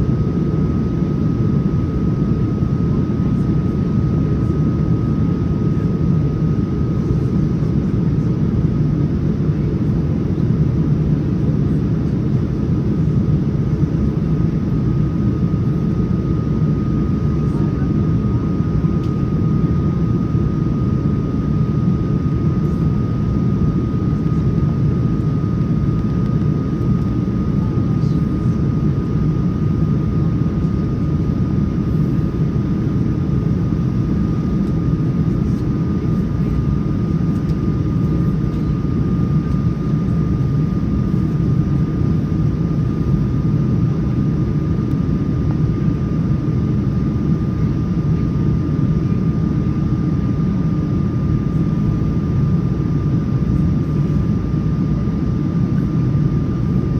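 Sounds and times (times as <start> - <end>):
airflow and engine rush: 0.0 - 56.9
thin steady whine: 0.0 - 56.9.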